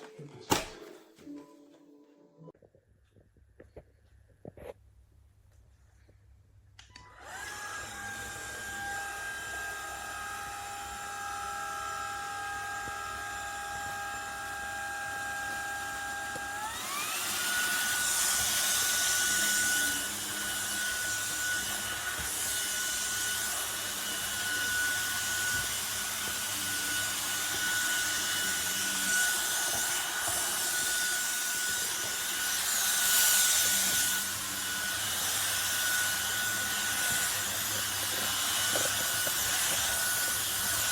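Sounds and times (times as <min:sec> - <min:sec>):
stick vacuum motor whine: 0:06.9 - 0:40.9.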